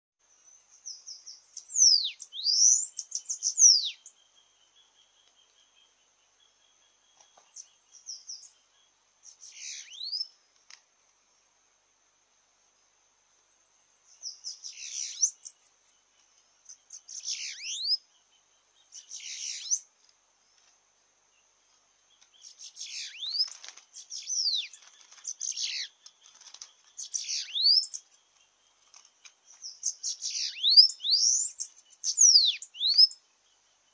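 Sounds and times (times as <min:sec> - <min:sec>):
birds singing high thin notes: 0:00.4 - 0:10.5, 0:13.9 - 0:20.7, 0:21.3 - 0:33.9.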